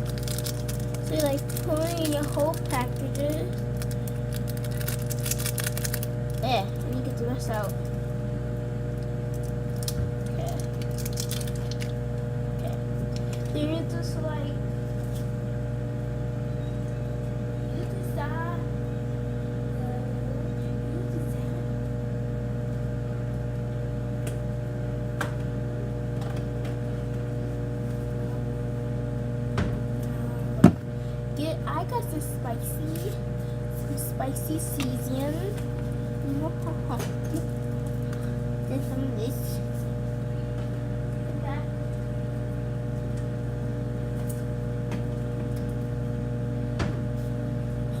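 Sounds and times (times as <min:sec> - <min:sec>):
microwave oven humming: 0:00.0 - 0:48.0.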